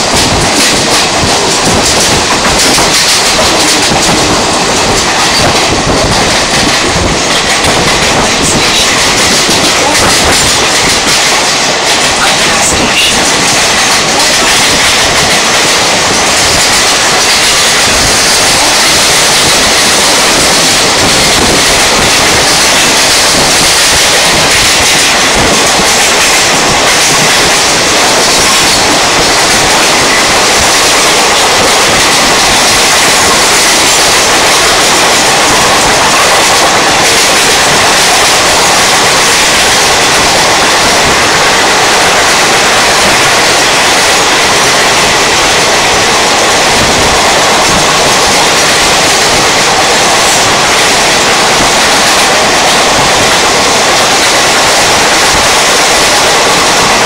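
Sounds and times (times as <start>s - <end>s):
passing express train: 0.0s - 57.0s
train wind and wheel-on-rail noise: 0.0s - 57.0s.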